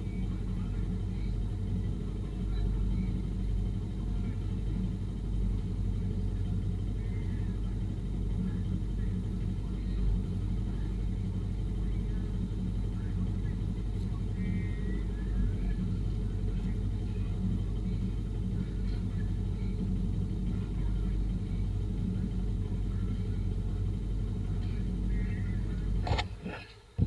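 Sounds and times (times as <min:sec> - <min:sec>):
motorcycle engine running: 0:00.0 - 0:27.0
road rumble: 0:00.0 - 0:27.0.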